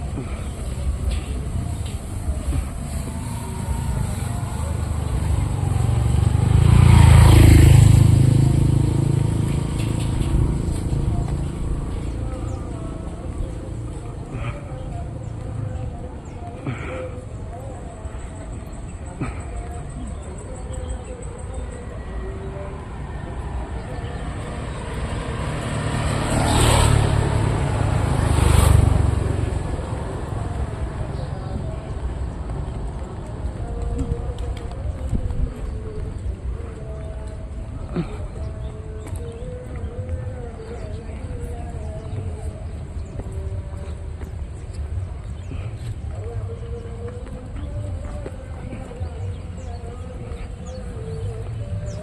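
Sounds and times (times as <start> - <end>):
vehicle passing close by: 0.0 - 15.8, 22.0 - 52.0
traffic rumble: 0.0 - 52.0.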